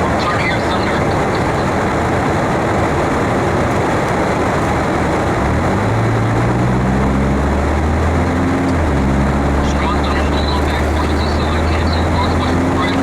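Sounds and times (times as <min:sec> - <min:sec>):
loud rushing noise: 0:00.0 - 0:13.0
low droning hum: 0:00.0 - 0:13.0.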